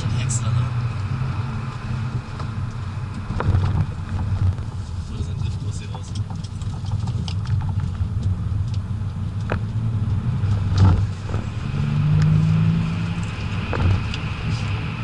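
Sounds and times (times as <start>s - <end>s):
diesel engine rumbling: 0.0s - 15.0s
tyre and road noise: 0.0s - 15.0s.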